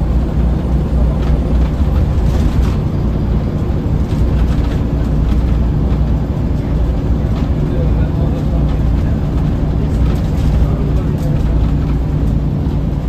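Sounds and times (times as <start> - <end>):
bus engine hum: 0.0 - 13.0
light rattles: 1.0 - 13.0.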